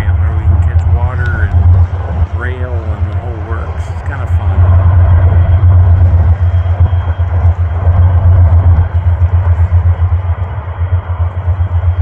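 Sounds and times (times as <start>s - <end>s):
diesel engines droning: 0.0s - 12.0s.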